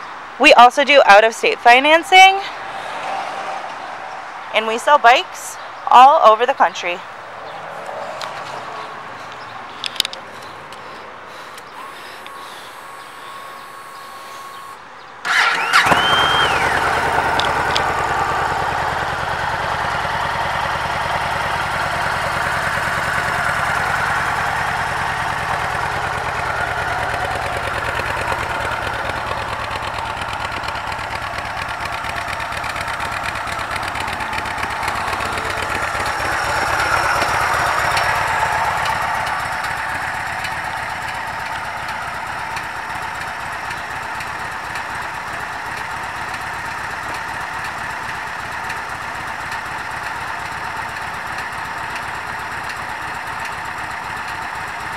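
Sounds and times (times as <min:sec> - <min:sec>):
motorcycle engine idling: 0:08.4 - 0:54.9.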